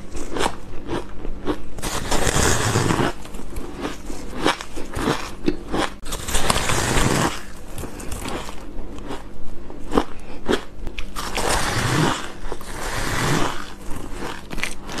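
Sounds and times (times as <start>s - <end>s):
chewing shaved ice: 0.0s - 15.0s.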